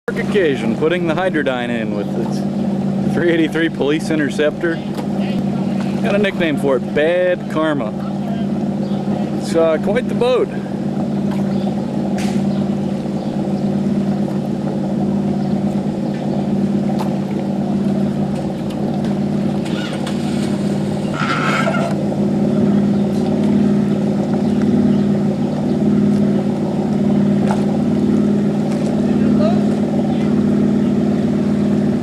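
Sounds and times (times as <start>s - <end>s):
boat engine running steadily: 0.0s - 32.0s.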